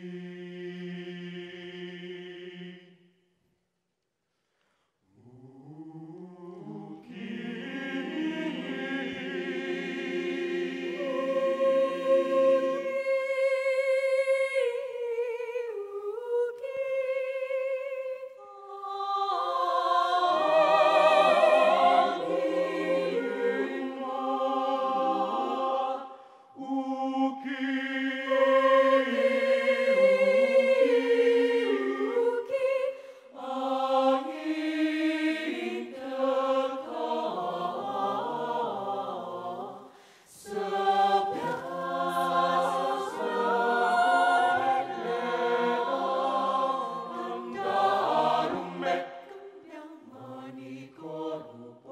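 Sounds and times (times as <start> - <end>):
choir singing in harmony: 0.0 - 3.2, 5.1 - 51.9.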